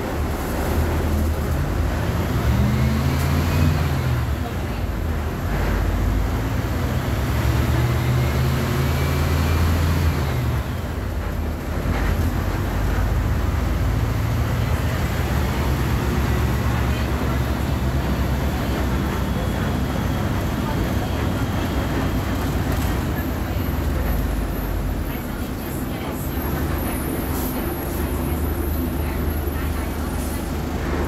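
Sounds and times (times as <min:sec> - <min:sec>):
bus diesel engine running: 0:00.0 - 0:31.0.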